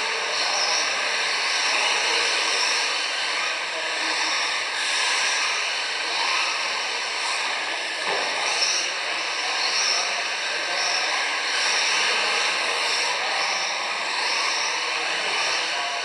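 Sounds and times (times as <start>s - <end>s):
electric toy cars whining: 0.0s - 16.0s.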